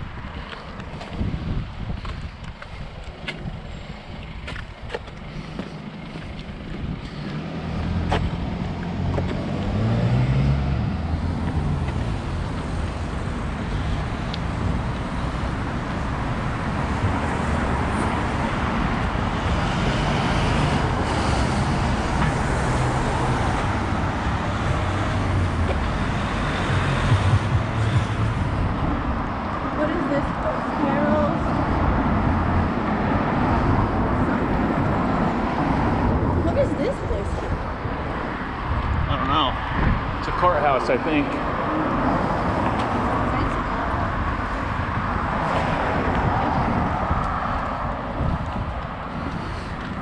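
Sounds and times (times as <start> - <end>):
road traffic passing: 0.0 - 50.0.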